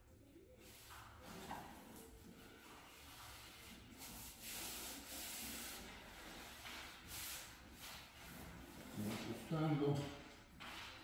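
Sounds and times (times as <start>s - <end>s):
hands rubbing vinyl strip: 0.6s - 9.6s.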